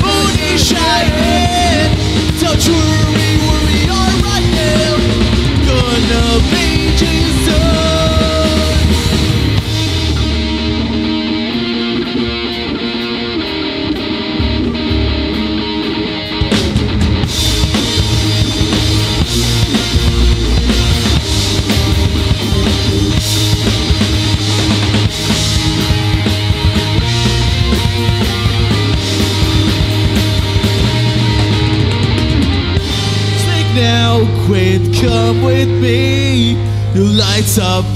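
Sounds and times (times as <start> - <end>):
drum kit: 0.0 - 35.8
bass guitar: 0.0 - 37.9
electric guitars: 0.0 - 37.9.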